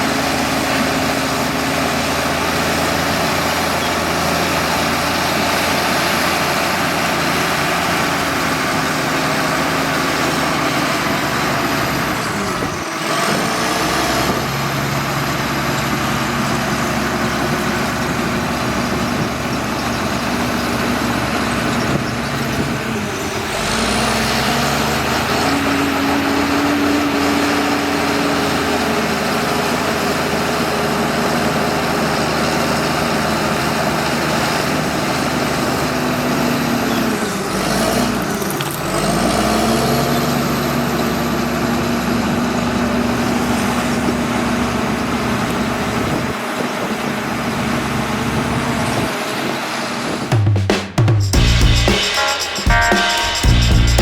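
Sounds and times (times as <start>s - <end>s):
bulldozer diesel engine running: 0.0s - 50.2s.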